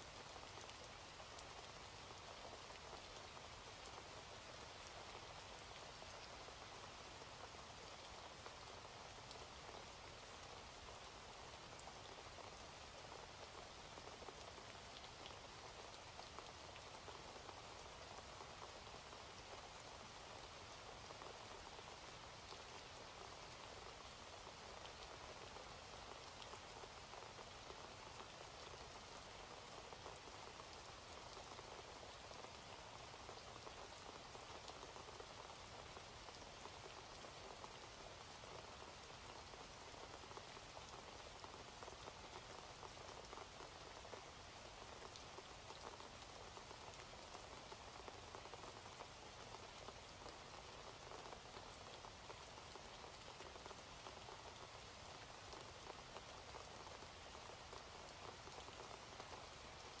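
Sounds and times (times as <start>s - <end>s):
faint steady rain: 0.0s - 60.0s.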